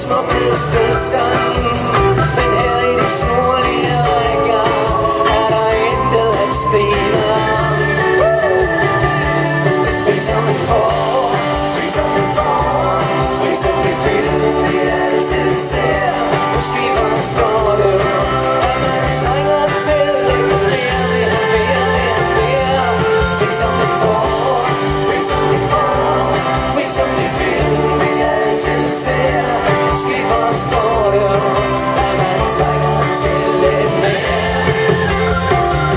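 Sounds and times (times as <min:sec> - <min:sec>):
live pop-rock band playing: 0:00.0 - 0:35.9.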